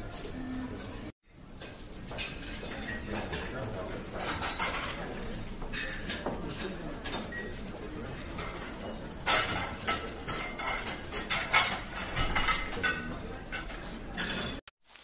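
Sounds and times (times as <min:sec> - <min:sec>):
dishes and cutlery clinking: 0:01.5 - 0:14.7.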